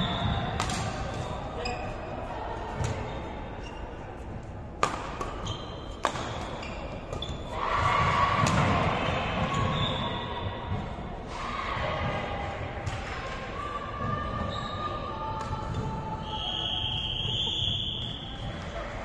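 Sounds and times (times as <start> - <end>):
basketball bouncing in a hall: 0.0 - 1.9, 5.0 - 19.0.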